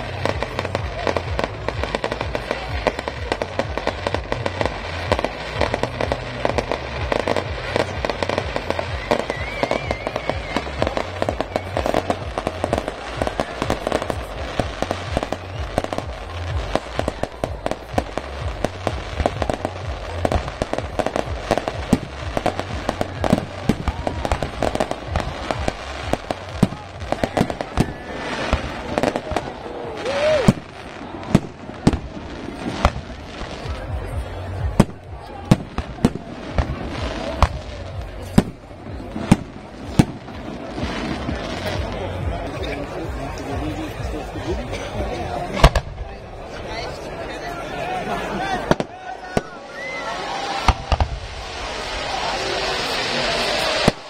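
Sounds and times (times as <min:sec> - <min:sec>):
fireworks bangs and crackling: 0:00.0 - 0:47.4, 0:48.2 - 0:54.0.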